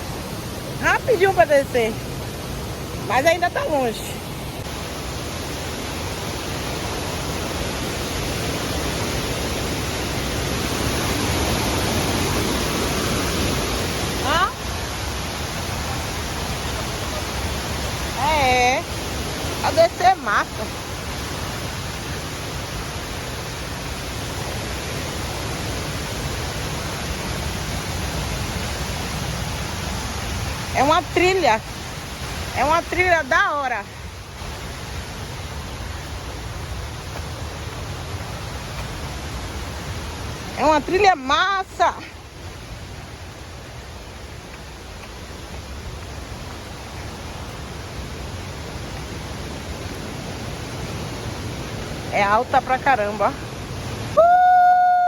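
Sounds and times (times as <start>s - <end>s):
steady rushing noise: 0.0s - 54.2s
waterfall roaring: 0.0s - 55.0s.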